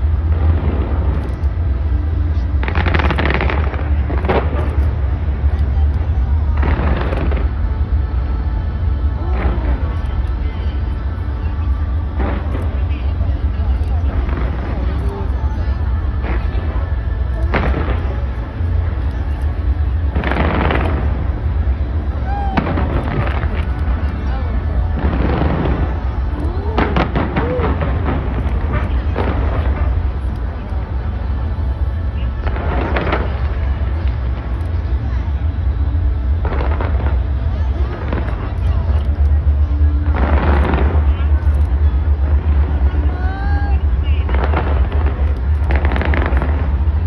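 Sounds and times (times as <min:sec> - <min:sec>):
fireworks booming: 0:00.0 - 0:10.4, 0:11.0 - 0:15.1, 0:15.8 - 0:34.7, 0:35.4 - 0:43.1, 0:43.8 - 0:47.0
fireworks crackling: 0:00.0 - 0:47.0
low rumble: 0:00.0 - 0:47.0.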